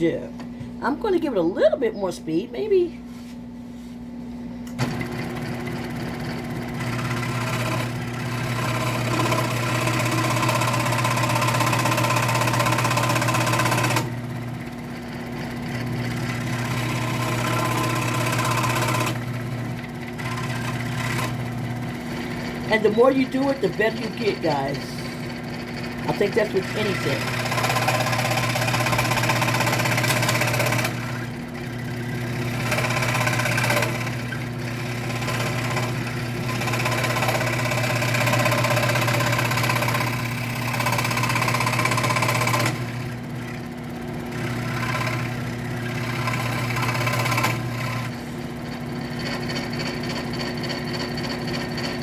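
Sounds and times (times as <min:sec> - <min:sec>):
scroll saw cutting wood: 0:04.8 - 0:14.2, 0:15.8 - 0:43.2, 0:44.3 - 0:52.0.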